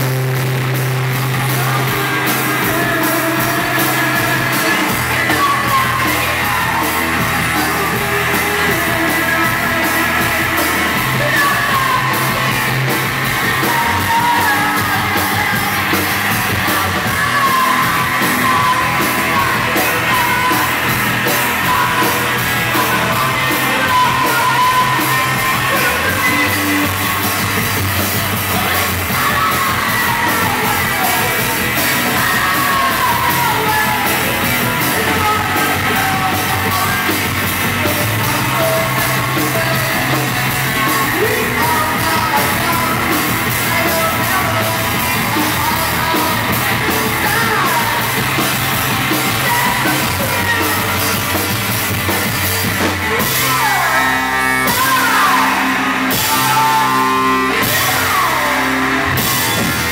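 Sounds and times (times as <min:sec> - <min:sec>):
live rock band playing: 0:00.0 - 0:59.9
woman shouting and singing: 0:01.1 - 0:27.3, 0:28.4 - 0:51.3, 0:53.1 - 0:59.3.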